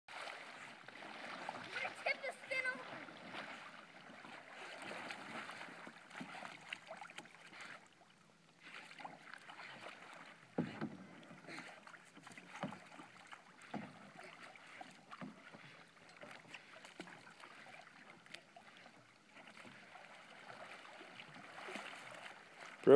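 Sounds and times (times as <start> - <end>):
water lapping and splashing: 0.1 - 22.9.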